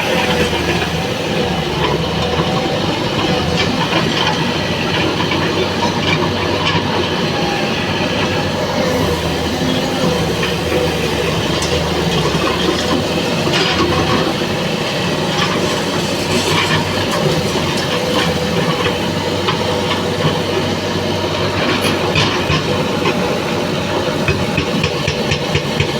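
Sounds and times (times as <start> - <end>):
diesel machinery engine hum: 0.0 - 25.9.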